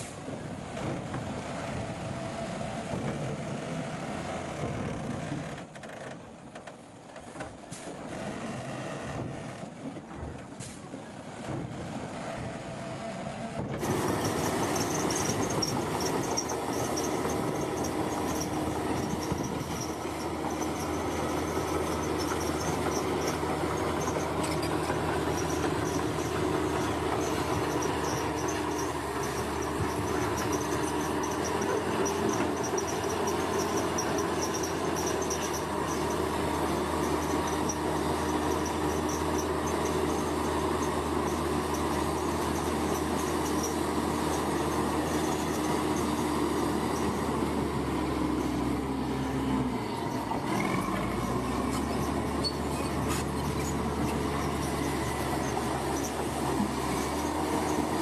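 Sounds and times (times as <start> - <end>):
construction machinery diesel engine: 0.0 - 58.0.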